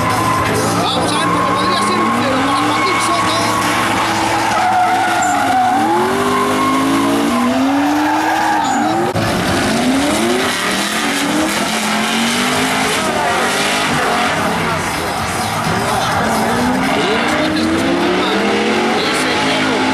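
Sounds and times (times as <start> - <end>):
car engines revving hard: 0.0 - 19.9
tyres squealing and skidding: 0.0 - 19.9.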